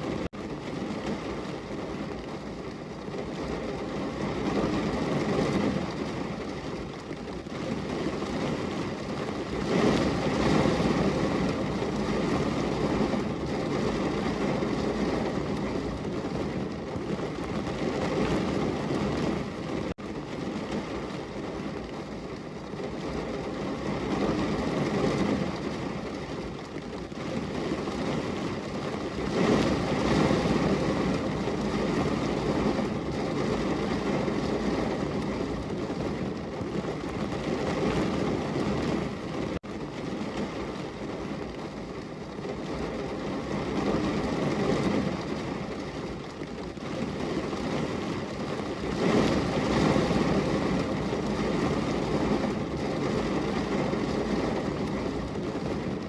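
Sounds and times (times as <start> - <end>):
heavy rain against window: 0.0 - 56.0.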